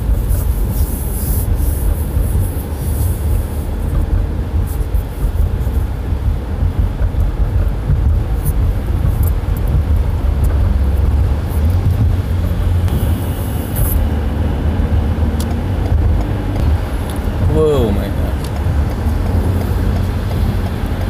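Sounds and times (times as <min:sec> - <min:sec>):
car engine noise: 0:00.0 - 0:21.0
road rumble: 0:00.0 - 0:21.0.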